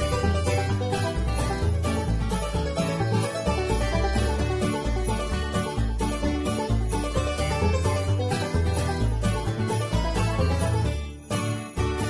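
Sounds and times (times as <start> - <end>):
background music with bass line: 0.0 - 12.0.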